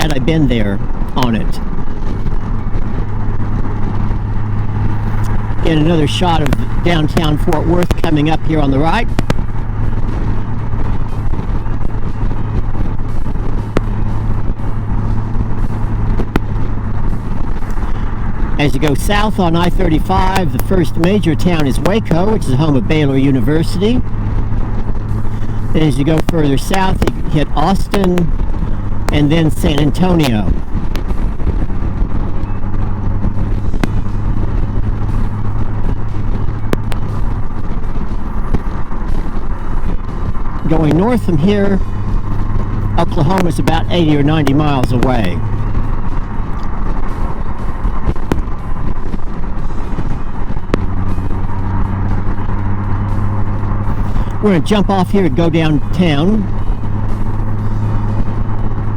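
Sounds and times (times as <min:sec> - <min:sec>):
motorcycle engine cruising: 0:00.0 - 0:58.9
road and wind noise: 0:00.0 - 0:58.9.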